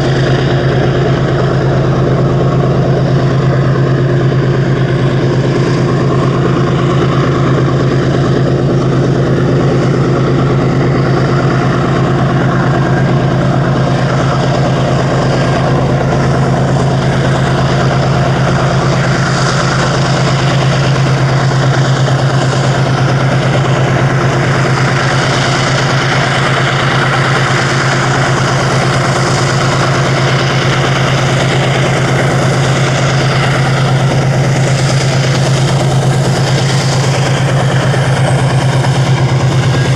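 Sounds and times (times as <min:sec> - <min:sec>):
steady engine hum: 0:00.0 - 0:39.9.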